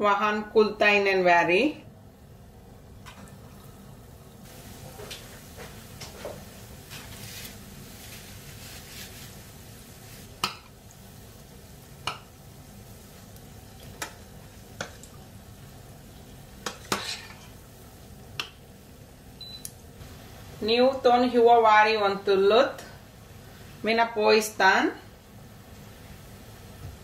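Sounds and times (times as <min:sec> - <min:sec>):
food deep-frying in oil: 0:02.9 - 0:24.8.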